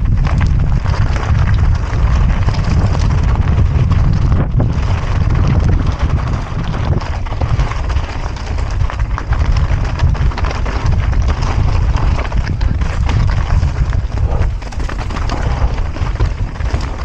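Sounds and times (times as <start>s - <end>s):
bike clicks and rattles: 0.0s - 17.0s
bike tyre noise: 0.0s - 17.0s
wind buffeting microphone: 0.0s - 17.0s.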